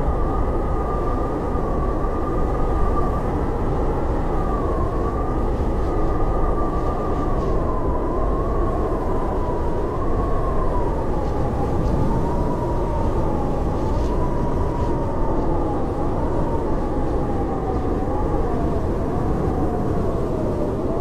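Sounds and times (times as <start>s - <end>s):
howling blizzard wind: 0.0s - 21.0s.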